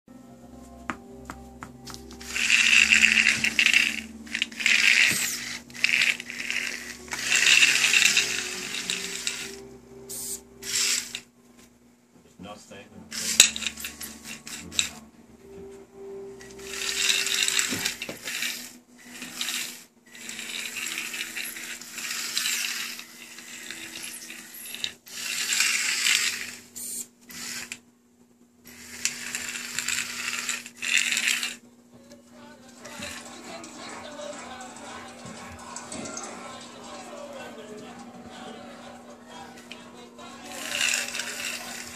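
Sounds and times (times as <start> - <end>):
gearmotors whirring: 2.1 - 11.7, 12.4 - 15.3, 16.4 - 27.8, 28.7 - 31.7, 32.3 - 41.9.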